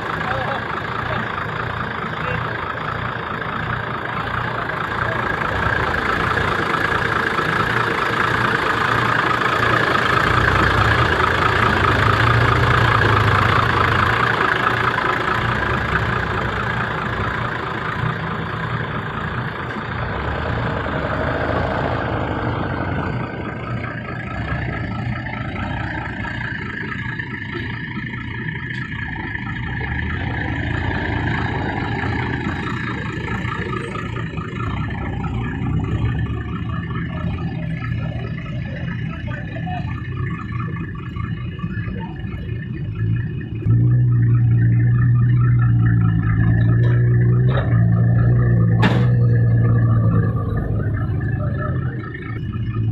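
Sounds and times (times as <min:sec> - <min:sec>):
truck engine idling: 0:00.0 - 0:52.9.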